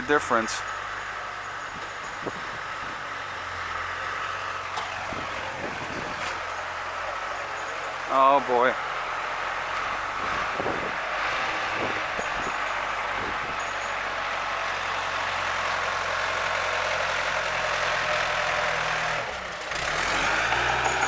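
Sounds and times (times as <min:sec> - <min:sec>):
bulldozer engine rattling: 0:00.0 - 0:21.0.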